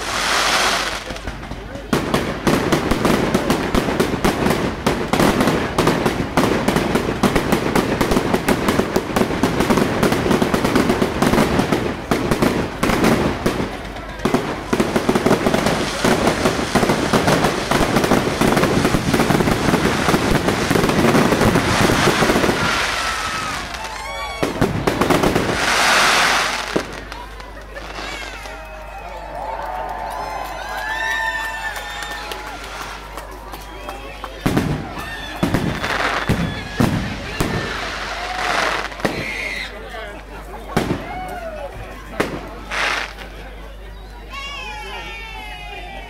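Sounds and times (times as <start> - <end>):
fireworks bangs and crackling: 0.0 - 29.0, 29.9 - 43.9.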